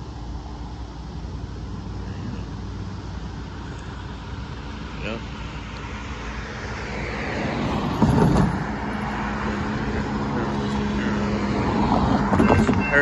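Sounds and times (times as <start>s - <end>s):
steady low hum: 0.0s - 12.2s
vehicle noise: 0.0s - 13.0s.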